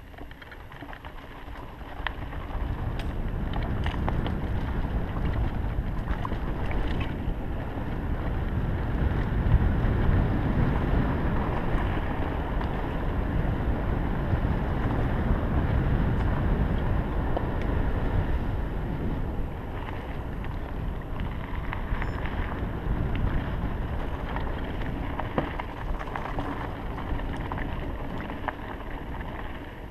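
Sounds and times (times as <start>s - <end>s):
bike tyres rumbling on dirt: 0.0s - 29.9s
wind rushing on microphone: 1.5s - 29.9s.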